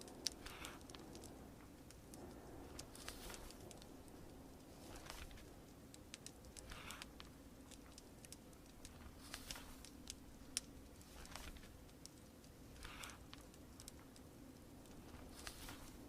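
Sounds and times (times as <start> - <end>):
fire popping and snapping: 0.0 - 16.0
soft rustles: 0.0 - 16.0
steady low hiss: 0.0 - 16.0.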